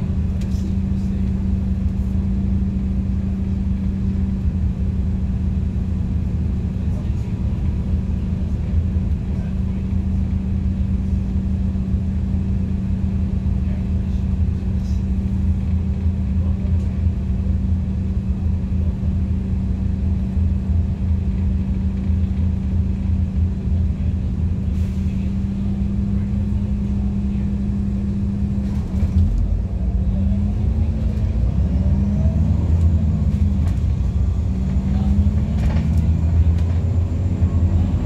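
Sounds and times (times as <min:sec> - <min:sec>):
bus engine rumbling: 0:00.0 - 0:38.0.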